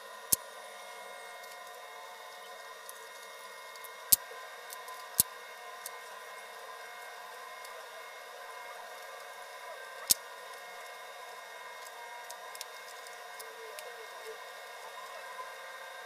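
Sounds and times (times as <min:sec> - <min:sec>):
steady hiss and hum: 0:00.0 - 0:16.0.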